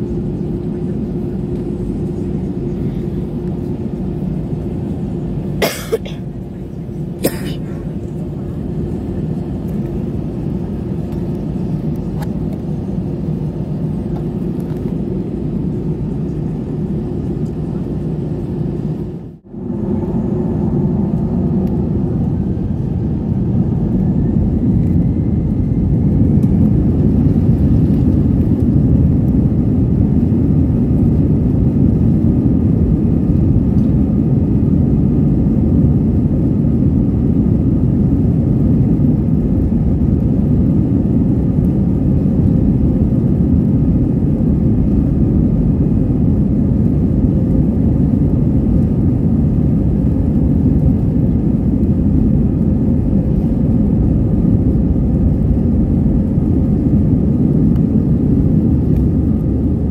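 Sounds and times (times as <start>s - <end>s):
faint rising engine whine: 0.0s - 5.6s, 6.2s - 59.9s
jet engine cabin rumble: 0.0s - 59.9s.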